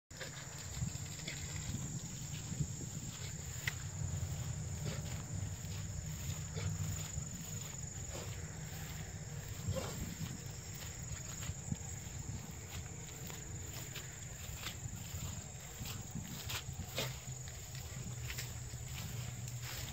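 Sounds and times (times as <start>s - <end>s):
field insects droning: 0.1s - 19.9s
footsteps through tall grass: 0.2s - 19.9s.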